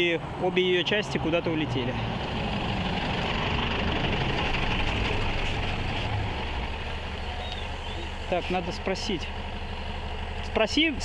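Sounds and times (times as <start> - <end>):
bus engine low hum: 0.0 - 11.0
road noise: 0.0 - 11.0.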